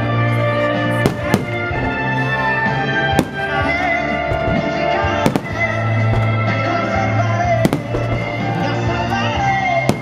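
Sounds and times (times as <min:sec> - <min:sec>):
music with long held notes: 0:00.0 - 0:10.0.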